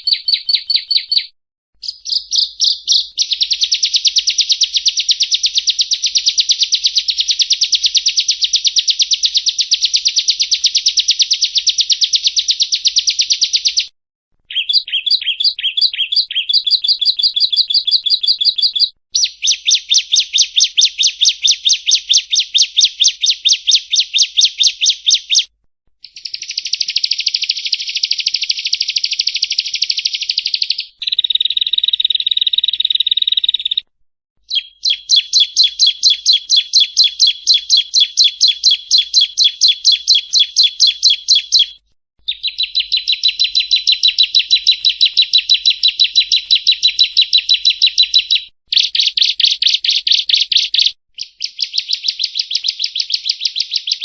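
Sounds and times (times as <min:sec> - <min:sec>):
bird rapid chirping song: 0:00.0 - 0:13.9, 0:14.5 - 0:54.0.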